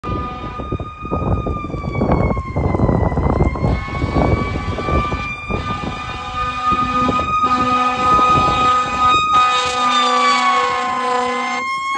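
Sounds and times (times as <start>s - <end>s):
fire engine siren wailing: 0.0s - 11.9s
road traffic rumble: 0.0s - 11.9s.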